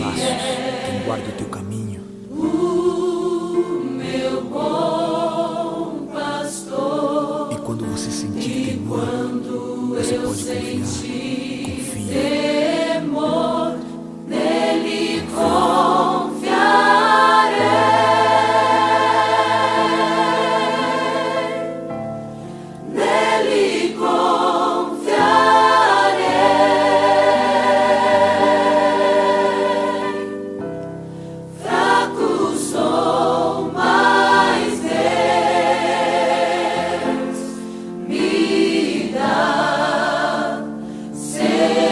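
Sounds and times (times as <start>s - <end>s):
choir singing slow song: 0.0s - 41.9s.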